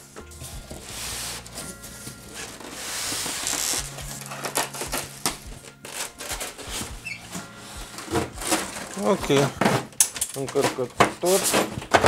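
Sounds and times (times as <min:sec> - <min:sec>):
faint background music: 0:00.0 - 0:12.0
packaging rustling: 0:00.0 - 0:12.0.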